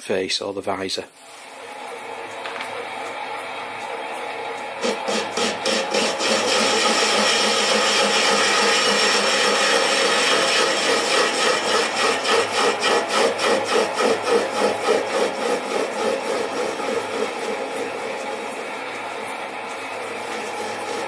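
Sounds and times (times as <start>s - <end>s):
lathe motor humming: 1.4s - 21.0s
lathe cutting metal: 1.6s - 21.0s.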